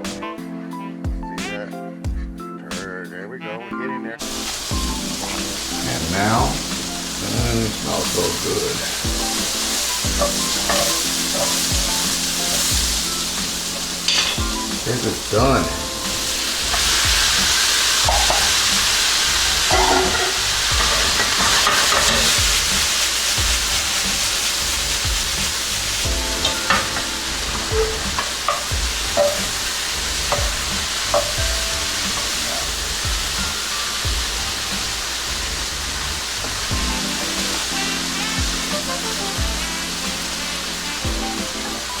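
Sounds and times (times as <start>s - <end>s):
vegetables sizzling in a frying pan: 4.2s - 42.0s.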